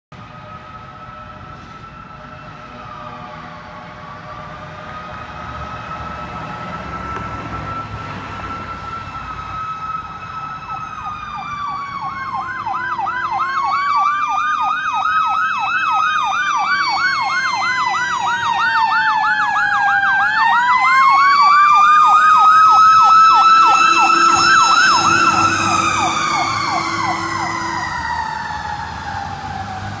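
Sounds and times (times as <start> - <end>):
fire engine siren wailing: 0.2 - 30.0
fast siren yelp: 0.5 - 30.0.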